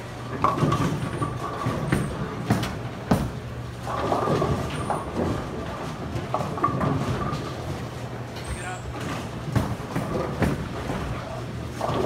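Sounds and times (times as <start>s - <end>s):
bowling balls rolling: 0.0s - 12.0s
bowling pins clattering: 0.2s - 12.0s.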